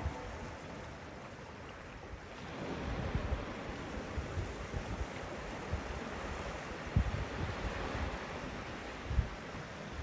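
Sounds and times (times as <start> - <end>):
sea waves washing onto shore: 0.0 - 10.0
wind rumbling on microphone: 0.0 - 10.0.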